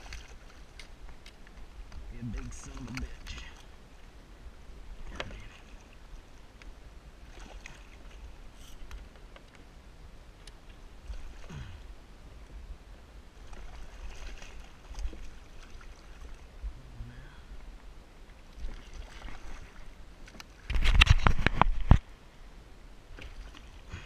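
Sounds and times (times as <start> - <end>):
water lapping against kayak hull: 0.0 - 22.1, 23.1 - 24.0
steady low rumble: 0.8 - 20.2.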